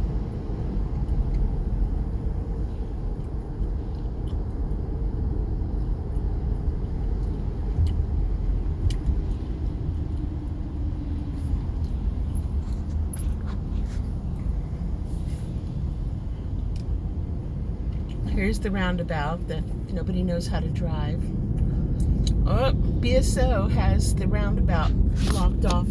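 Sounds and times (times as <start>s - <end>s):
car engine and tyre rumble: 0.0s - 25.9s.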